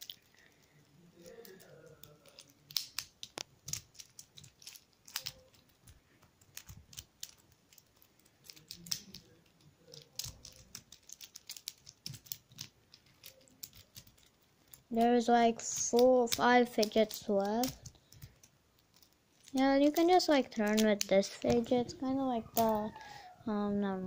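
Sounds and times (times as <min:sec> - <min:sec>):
plastic blocks clicking together: 0:00.0 - 0:00.6, 0:01.2 - 0:15.0, 0:15.6 - 0:23.0.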